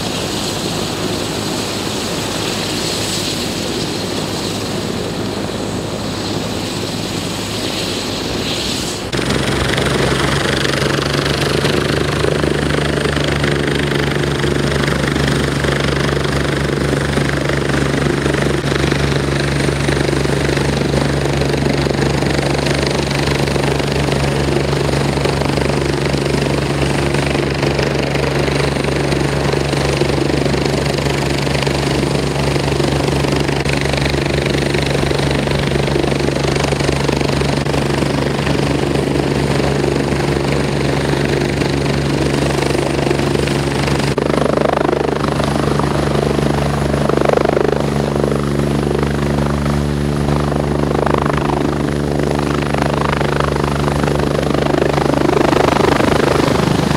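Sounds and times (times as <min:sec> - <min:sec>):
helicopter rotor chopping: 0:00.0 - 0:56.9
engine hum: 0:03.6 - 0:26.7, 0:32.8 - 0:56.9.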